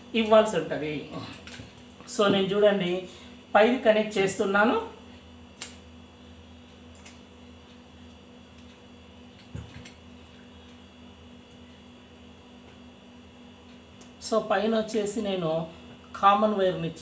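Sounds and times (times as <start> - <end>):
low electrical mains hum: 0.0 - 17.0.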